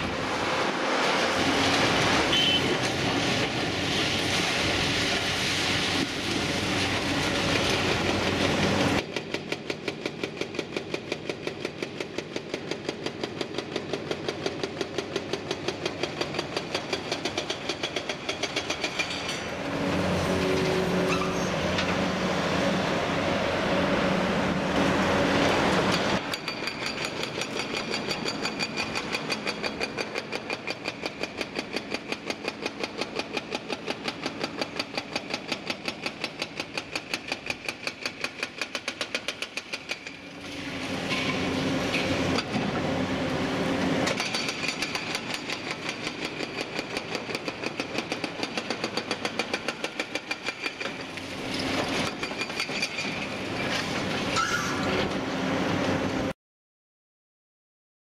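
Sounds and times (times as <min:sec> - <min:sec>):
excavator engine and hydraulics pulsing: 0:00.0 - 0:56.3.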